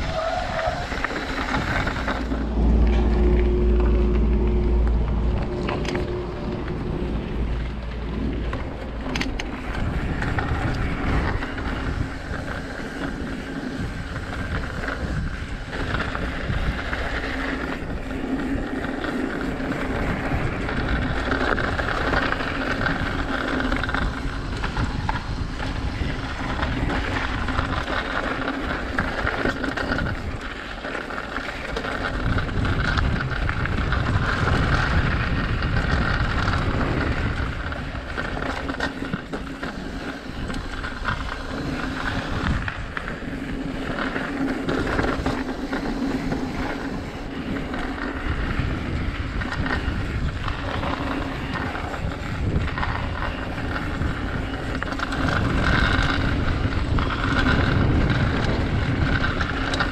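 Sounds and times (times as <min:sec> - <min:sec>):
bike and tyres rolling: 0:00.0 - 0:59.9
wind buffeting microphone: 0:00.0 - 0:59.9.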